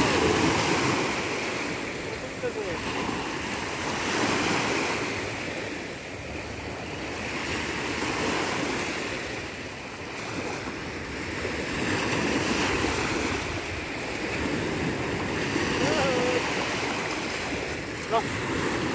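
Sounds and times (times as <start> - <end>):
waves washing up pebble beach: 0.0 - 9.5, 10.1 - 18.9.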